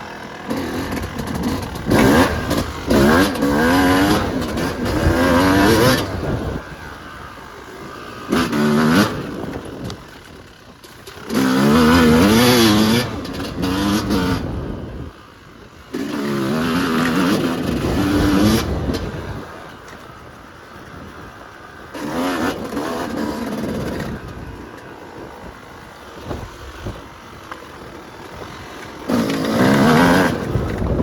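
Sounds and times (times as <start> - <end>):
dirt bike engine revving: 0.0 - 19.6, 21.8 - 31.0.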